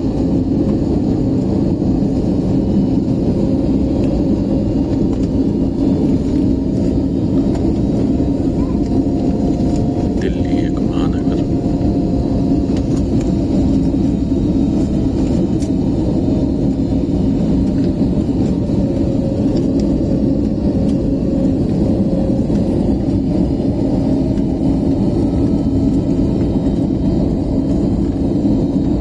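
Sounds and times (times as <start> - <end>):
airliner engines and airflow rumble: 0.0 - 29.0.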